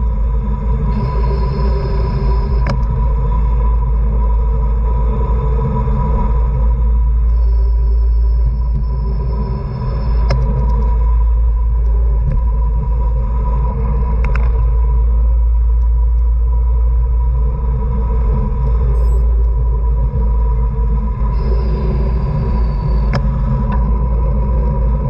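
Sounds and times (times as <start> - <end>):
faint steady high tone: 0.0 - 25.0.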